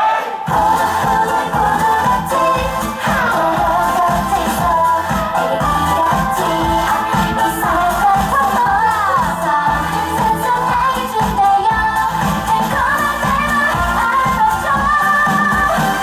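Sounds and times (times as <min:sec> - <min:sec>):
pop song with singing over beat: 0:00.0 - 0:16.0.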